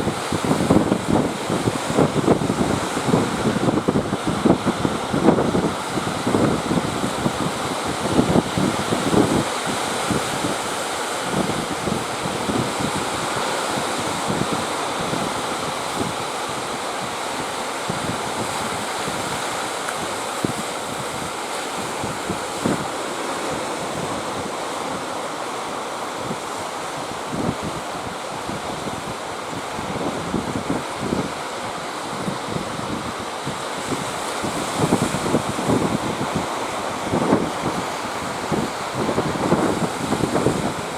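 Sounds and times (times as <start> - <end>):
sea surf rushing: 0.0 - 40.9
wind gusts buffeting microphone: 0.0 - 40.9.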